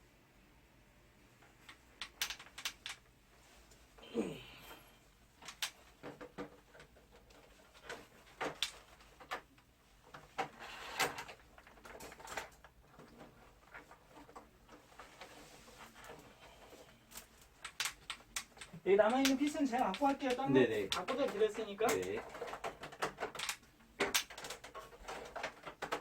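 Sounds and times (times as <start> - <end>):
plastic parts clicking and knocking: 1.6 - 3.1, 5.3 - 26.0.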